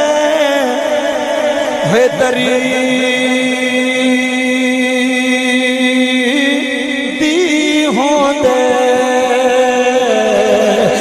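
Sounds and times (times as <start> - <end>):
man chanting in sung style: 0.0 - 11.0.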